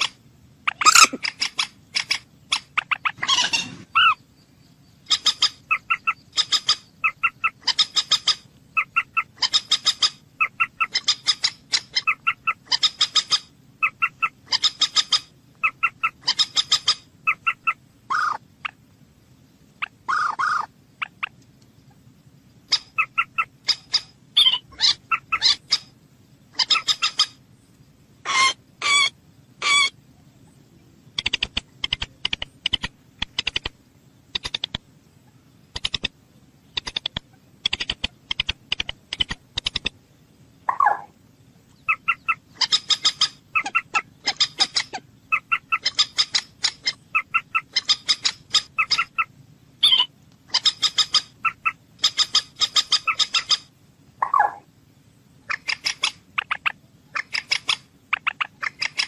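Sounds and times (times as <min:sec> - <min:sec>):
bird calling: 0:00.0 - 0:18.9, 0:19.7 - 0:40.0, 0:40.6 - 0:54.7, 0:55.4 - 0:59.0.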